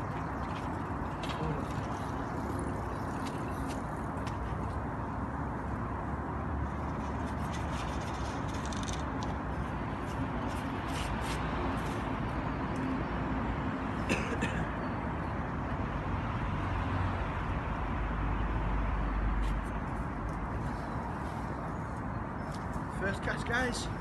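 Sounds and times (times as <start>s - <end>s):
outdoor background hum: 0.0s - 24.0s.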